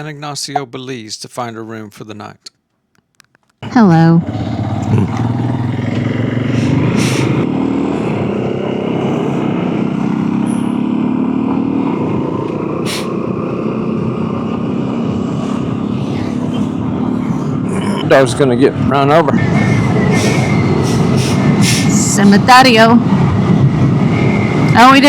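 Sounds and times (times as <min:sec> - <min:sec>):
motorcycle engine running: 0:03.6 - 0:25.0
wind and road noise: 0:03.6 - 0:25.0.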